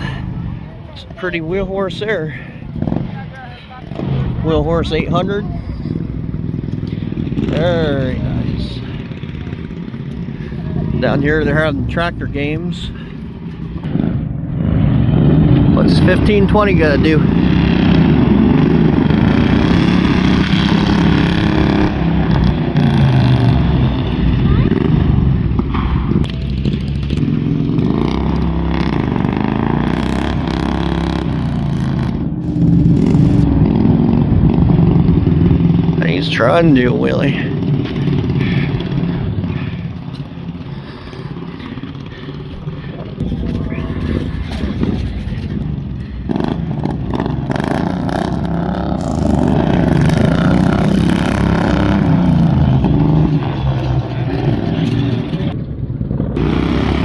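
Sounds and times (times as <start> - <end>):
tractor engine revving: 0.0 - 57.0.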